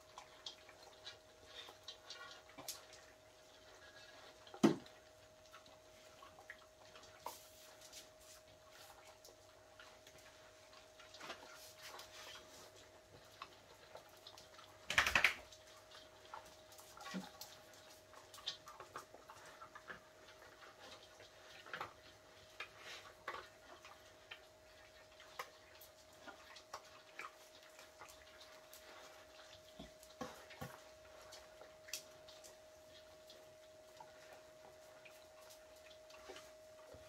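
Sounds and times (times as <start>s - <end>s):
animals crunching dry kibble: 0.0s - 37.0s.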